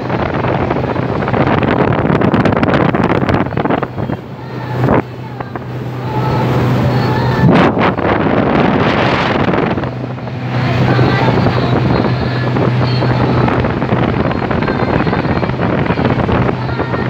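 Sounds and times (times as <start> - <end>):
boat engine humming: 0.0 - 17.0
wind noise on microphone: 0.0 - 17.0.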